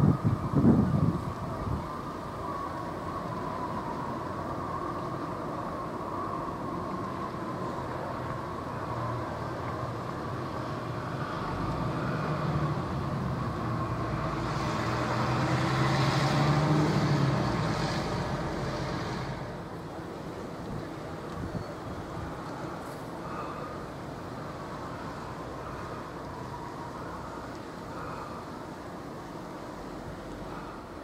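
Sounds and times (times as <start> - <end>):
boat engine drone: 0.0 - 31.0.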